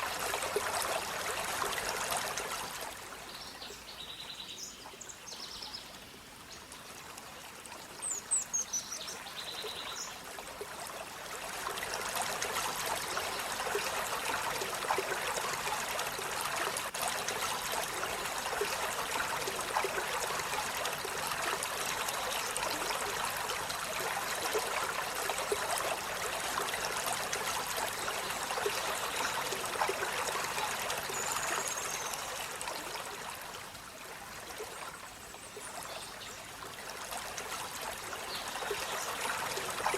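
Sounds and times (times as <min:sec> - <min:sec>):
running water rushing: 0:00.0 - 0:04.0, 0:05.0 - 0:39.9.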